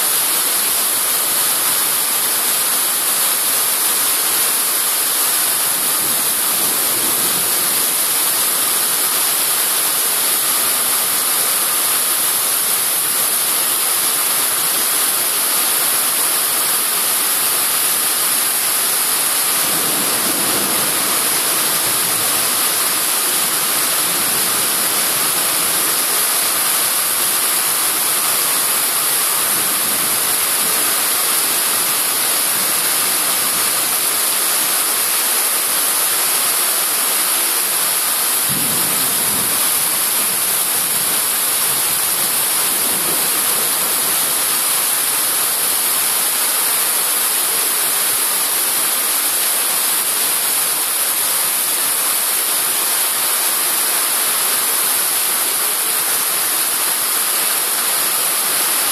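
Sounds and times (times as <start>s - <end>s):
heavy rain pouring: 0.0s - 58.9s.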